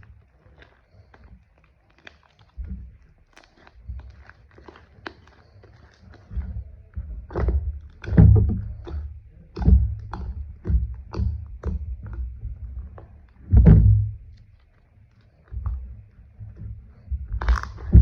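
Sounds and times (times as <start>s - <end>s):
slime squished by hand: 0.0s - 18.0s.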